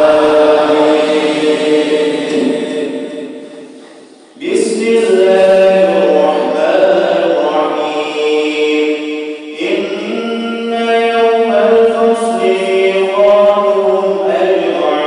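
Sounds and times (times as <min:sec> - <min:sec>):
man chanting melodic recitation: 0:00.0 - 0:03.3, 0:04.2 - 0:15.0.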